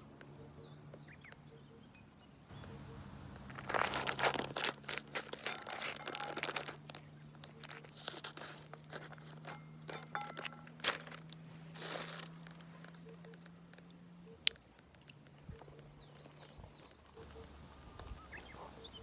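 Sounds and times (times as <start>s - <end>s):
crunching and crackling: 2.5s - 19.0s.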